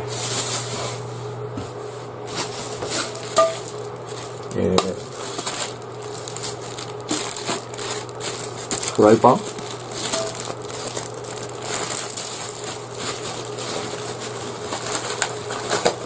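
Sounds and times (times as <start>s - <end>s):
metal items clinking and clattering: 2.8s - 16.0s.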